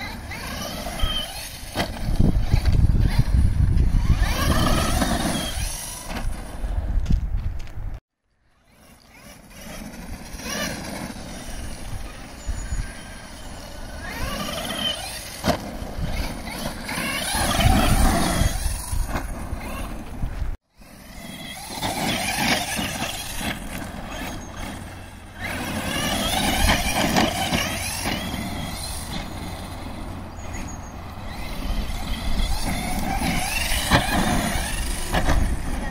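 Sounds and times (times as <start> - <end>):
electric motor and gears whining: 0.0 - 35.9.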